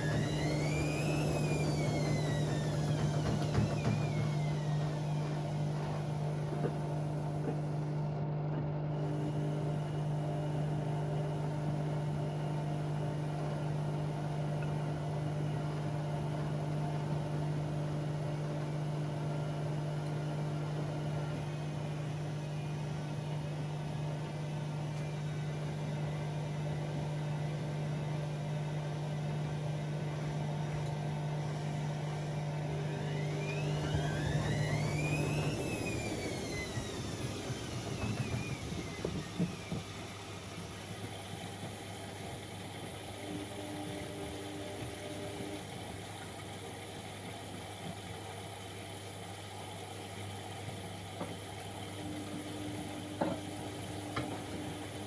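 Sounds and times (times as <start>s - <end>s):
washing machine drum motor whine: 0.0s - 55.0s
washing machine humming: 0.0s - 55.0s.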